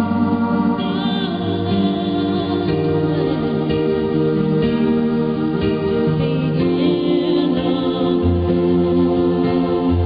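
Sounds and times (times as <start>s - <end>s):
music with long held chords: 0.0s - 10.0s.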